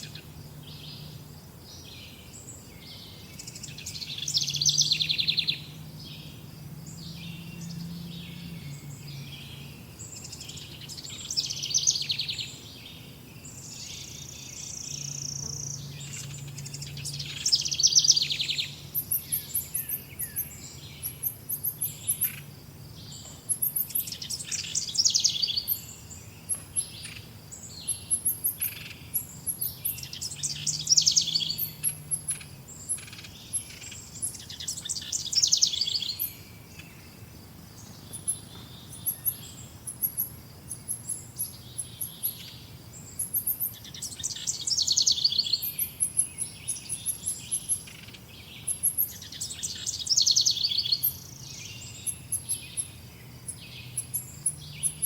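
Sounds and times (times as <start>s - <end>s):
faint high bird chirps: 1.8s - 6.4s, 7.0s - 55.0s
fast trilled bird song: 2.5s - 6.4s, 7.0s - 55.0s.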